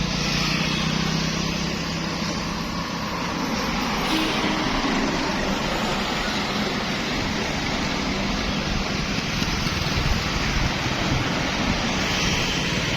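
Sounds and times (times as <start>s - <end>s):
passing road traffic: 0.0s - 12.9s.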